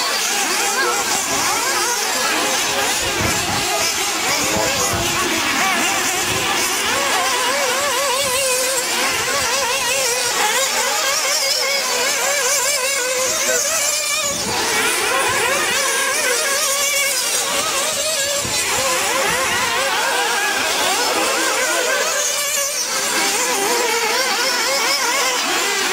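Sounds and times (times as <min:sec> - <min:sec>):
rc buggy engines revving high: 0:00.0 - 0:25.9.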